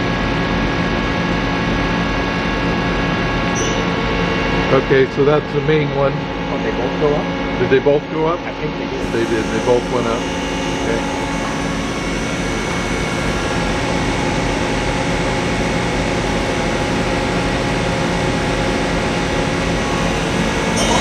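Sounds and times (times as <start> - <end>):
machine spindle whine: 3.0 - 21.0.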